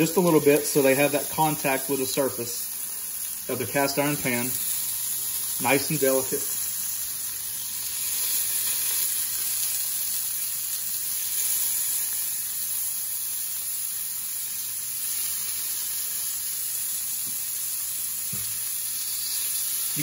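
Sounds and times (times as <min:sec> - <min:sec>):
scallops searing in a skillet: 0:00.0 - 0:20.0.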